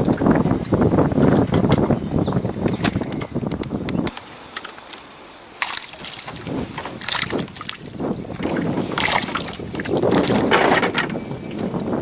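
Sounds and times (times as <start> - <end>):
wind on microphone: 0.0 - 4.4, 5.9 - 12.0
water sloshing beside boat: 0.0 - 12.0.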